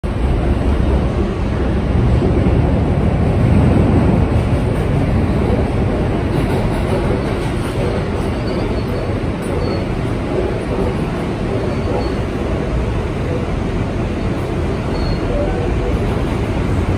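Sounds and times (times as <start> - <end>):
subway car rumbling on rails: 0.0 - 16.9.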